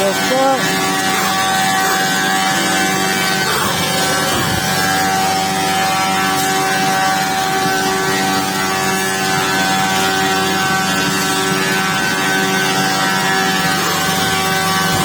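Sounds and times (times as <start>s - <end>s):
planer machine whine: 0.0s - 15.0s.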